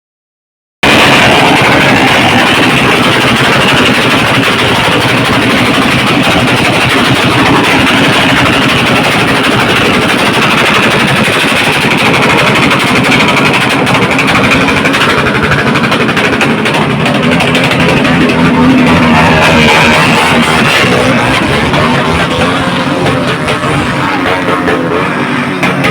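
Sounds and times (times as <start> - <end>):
engines revving through exhaust: 0.8 - 25.9.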